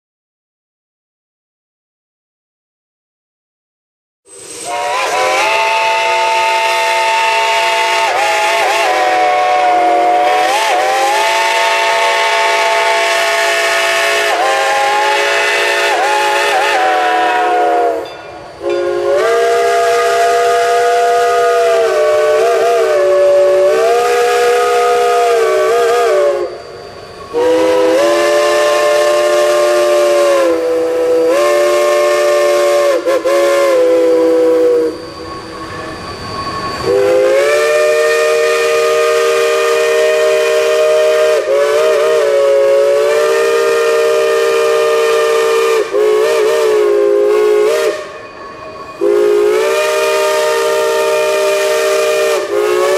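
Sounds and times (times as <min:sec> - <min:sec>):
steam locomotive whistle blasts: 0:04.3 - 0:52.9.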